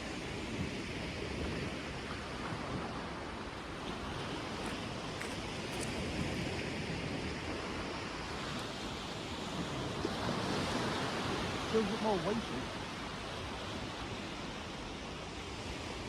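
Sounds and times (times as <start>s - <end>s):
sea surf washing on a beach: 0.0s - 16.0s
wind on the microphone: 0.0s - 16.0s.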